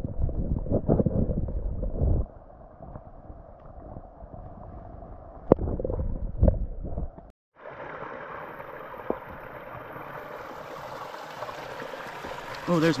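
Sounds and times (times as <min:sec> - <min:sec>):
stream heard underwater: 0:00.0 - 0:13.0.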